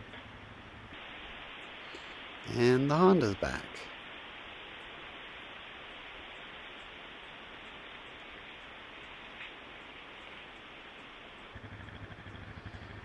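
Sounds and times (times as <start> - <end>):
static-like hiss: 0.0 - 13.0.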